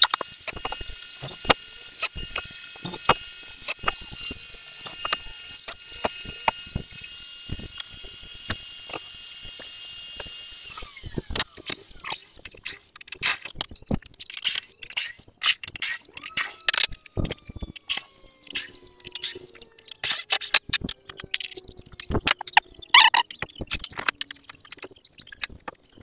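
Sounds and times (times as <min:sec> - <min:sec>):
power tool motor whining: 0:00.0 - 0:13.7, 0:15.8 - 0:23.2.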